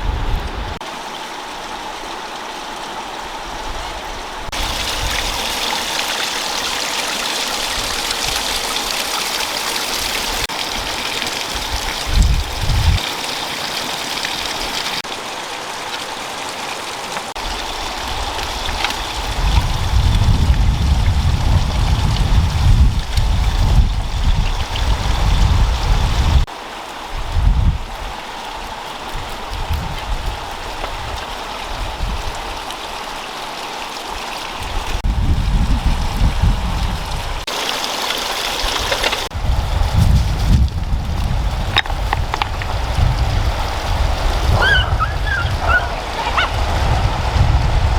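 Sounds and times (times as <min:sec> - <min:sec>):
running water hissing: 0:00.0 - 0:27.1, 0:36.6 - 0:47.9.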